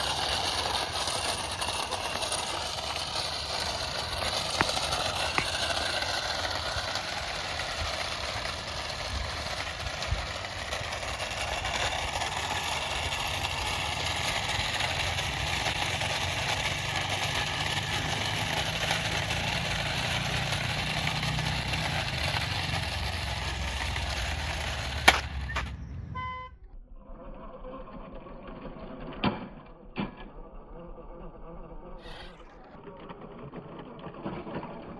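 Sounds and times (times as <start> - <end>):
toy car motors whirring: 0.0 - 25.8, 29.8 - 34.9
wheels rolling on hard floor: 0.0 - 26.0, 32.0 - 34.9.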